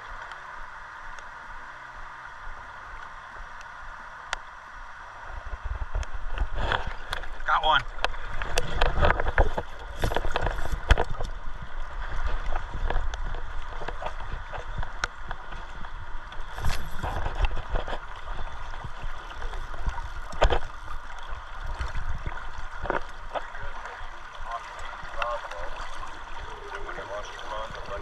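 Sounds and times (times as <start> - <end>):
river water flowing and sloshing: 0.0 - 28.0.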